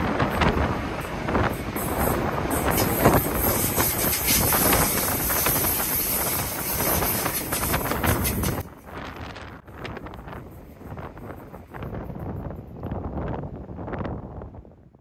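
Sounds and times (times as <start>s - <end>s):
train wheels rushing on rails: 0.0s - 13.4s.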